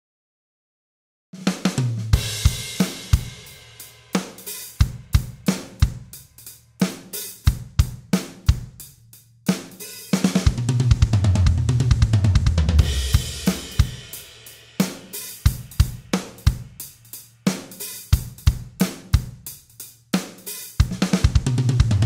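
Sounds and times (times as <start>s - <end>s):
fast tom and bass drum fill: 1.4s - 8.8s, 9.5s - 19.5s, 20.2s - 22.0s
electronic drum groove: 1.4s - 22.0s.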